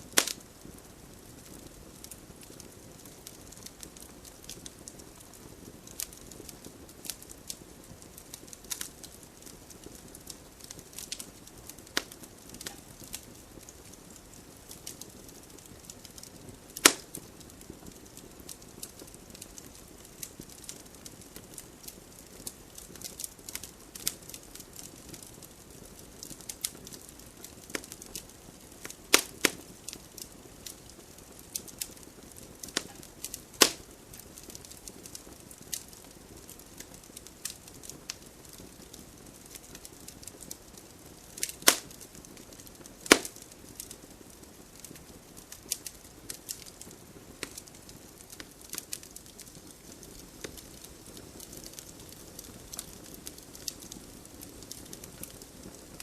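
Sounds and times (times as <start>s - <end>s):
campfire pops and snaps: 0.0s - 56.0s
fire hissing: 0.0s - 56.0s.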